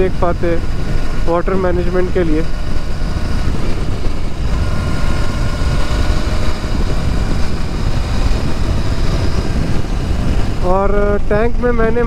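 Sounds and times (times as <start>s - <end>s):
motorcycle engine cruising: 0.0s - 12.0s
wind rumble on microphone: 0.0s - 12.0s.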